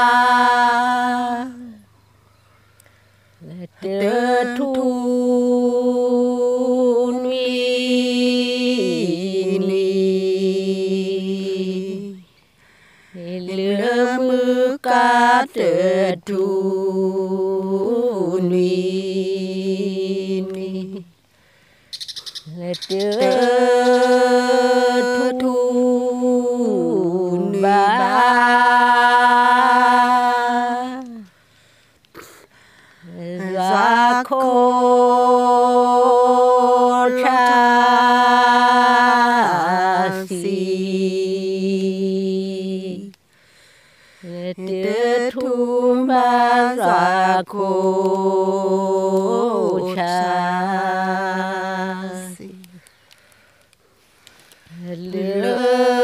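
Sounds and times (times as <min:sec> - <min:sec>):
woman singing unaccompanied: 0:00.0 - 0:01.9, 0:03.4 - 0:12.4, 0:13.1 - 0:21.2, 0:22.4 - 0:31.4, 0:32.2 - 0:43.3, 0:44.2 - 0:52.9, 0:54.7 - 0:56.0.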